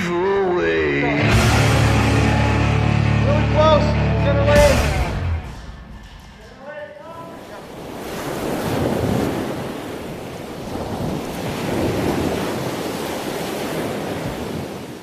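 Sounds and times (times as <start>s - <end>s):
ocean surf rushing: 0.0s - 15.0s.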